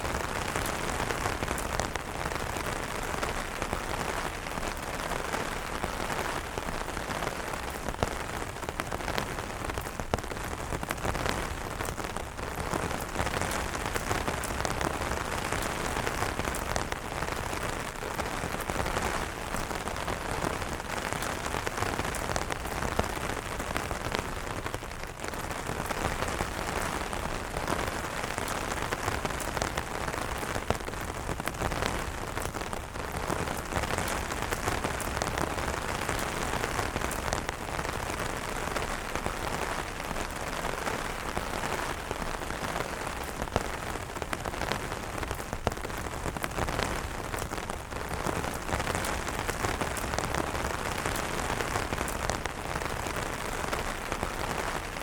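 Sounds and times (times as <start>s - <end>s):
hiss of rain: 0.0s - 55.0s
rain drops tapping on umbrellas: 0.0s - 55.0s.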